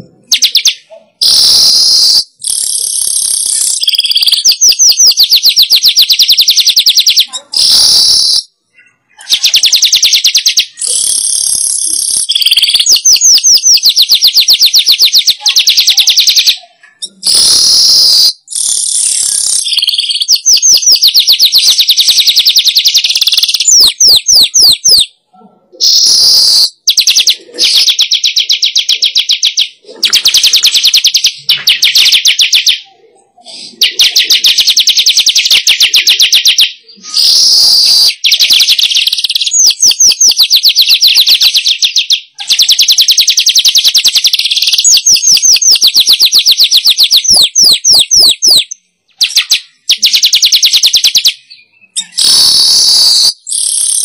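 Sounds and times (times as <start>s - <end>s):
high squeaky bird notes: 0.0s - 51.2s
bird chattering trills: 0.0s - 54.0s.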